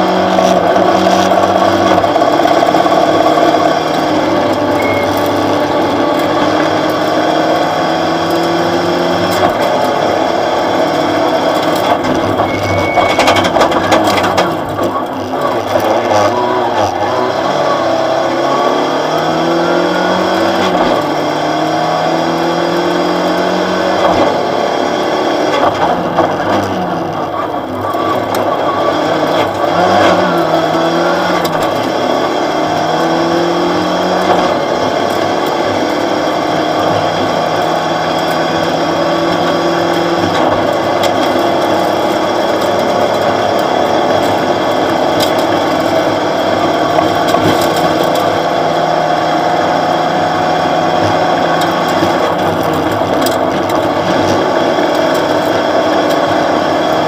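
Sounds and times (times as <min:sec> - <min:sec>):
gear and road noise: 0:00.0 - 0:57.0
rally car engine running hard: 0:00.0 - 0:57.0.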